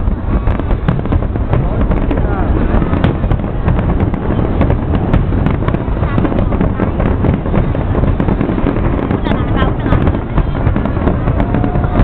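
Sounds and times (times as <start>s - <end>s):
fireworks cracks and bangs: 0.0s - 12.0s
low rumble of booms: 0.0s - 12.0s.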